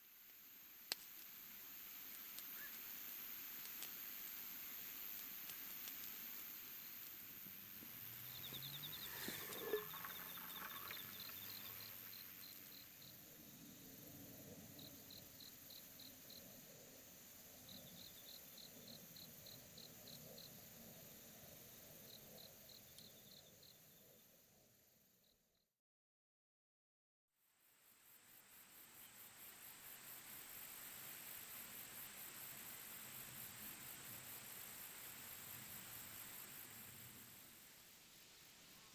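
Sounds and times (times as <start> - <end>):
crickets chirping: 0.0 - 25.6, 27.6 - 38.9.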